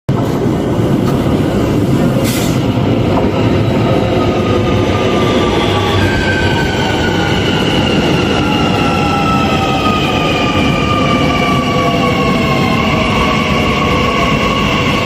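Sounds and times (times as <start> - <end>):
train wheels rumbling on rail: 0.1 - 15.0.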